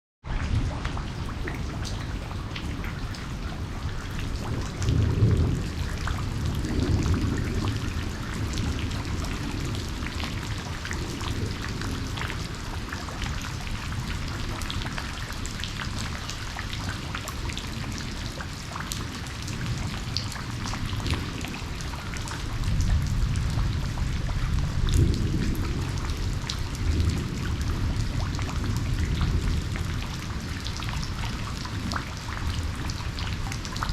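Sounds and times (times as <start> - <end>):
steady rain falling: 0.3 - 33.9
thunder rumbling: 0.4 - 16.6, 17.4 - 33.9
raindrops striking close: 0.4 - 33.9.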